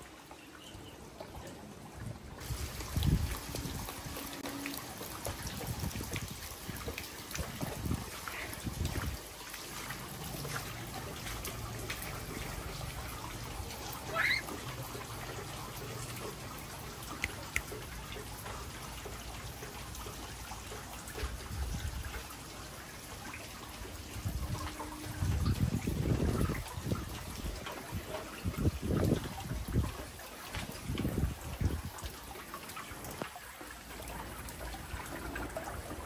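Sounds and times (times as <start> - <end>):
water trickling and running: 0.0 - 36.0.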